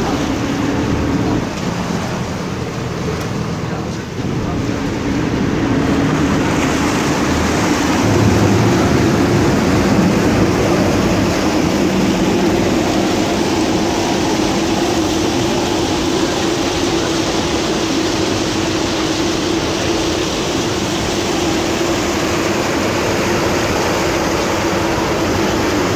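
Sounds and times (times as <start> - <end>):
boat engine droning: 0.0 - 25.9
churned water rushing: 0.0 - 25.9.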